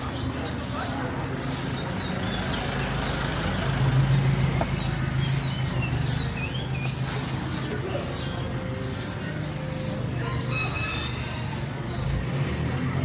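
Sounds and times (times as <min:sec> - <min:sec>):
heavy vehicle engine humming: 0:00.0 - 0:13.0.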